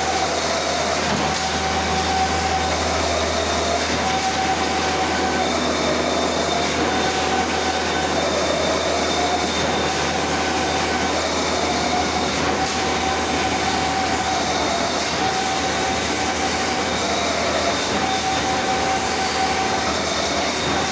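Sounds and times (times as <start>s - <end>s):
dense mechanical noise: 0.0s - 20.9s
machine high whine: 0.0s - 20.9s.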